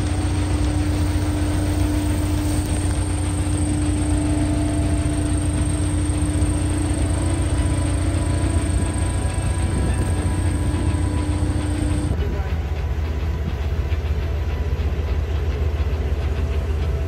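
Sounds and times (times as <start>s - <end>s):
low mechanical hum and rumble: 0.0s - 17.0s.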